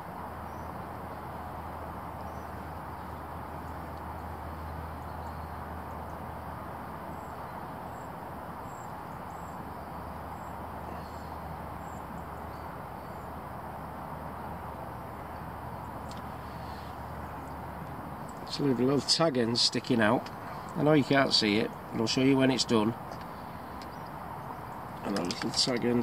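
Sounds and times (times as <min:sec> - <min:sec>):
low outdoor hum: 0:00.0 - 0:26.0.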